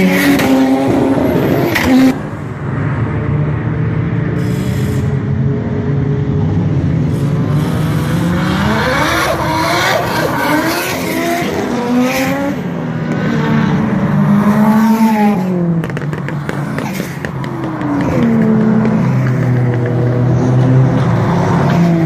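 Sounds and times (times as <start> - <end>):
race car engines passing by: 0.0 - 22.0.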